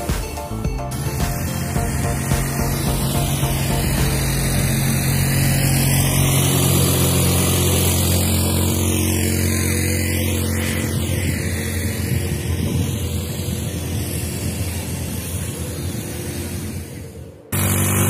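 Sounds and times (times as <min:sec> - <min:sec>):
wind: 0:00.0 - 0:18.0
vehicle engine passing by: 0:01.0 - 0:18.0.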